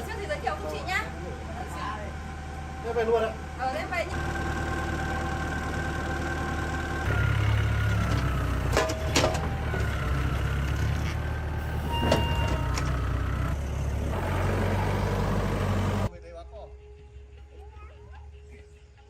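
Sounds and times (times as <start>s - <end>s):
engine running steadily: 0.0s - 16.1s.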